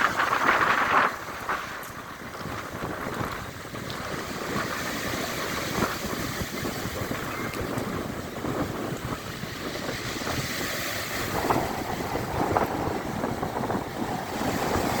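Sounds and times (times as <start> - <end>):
rough sea waves breaking: 0.0 - 15.0
wind buffeting microphone: 0.0 - 15.0.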